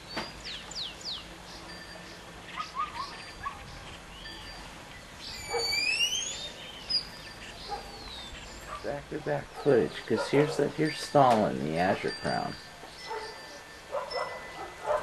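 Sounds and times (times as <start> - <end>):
birds whistling and chirping: 0.0 - 15.0.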